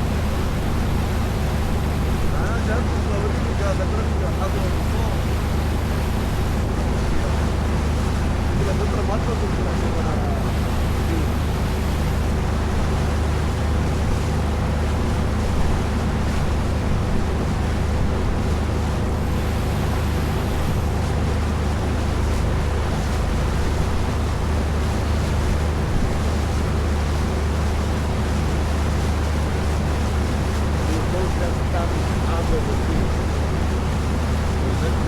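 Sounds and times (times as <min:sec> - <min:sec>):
boat engine droning: 0:00.0 - 0:35.0
water rushing along hull: 0:00.0 - 0:35.0.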